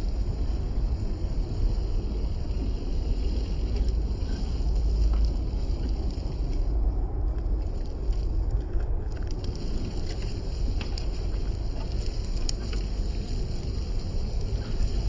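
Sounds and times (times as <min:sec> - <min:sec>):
wind rumble on microphone: 0:00.0 - 0:15.0
toy car tyres crunching on rocks: 0:01.1 - 0:15.0.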